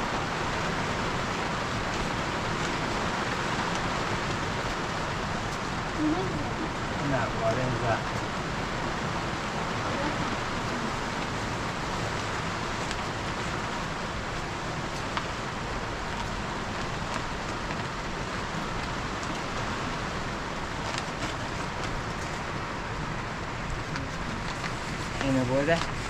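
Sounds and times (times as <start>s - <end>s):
steady rain falling: 0.0s - 26.0s
sharp raindrop ticks: 0.5s - 26.0s.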